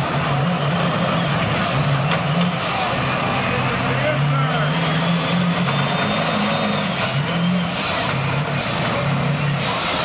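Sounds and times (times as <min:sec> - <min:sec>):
truck engine running hard: 0:00.0 - 0:10.0.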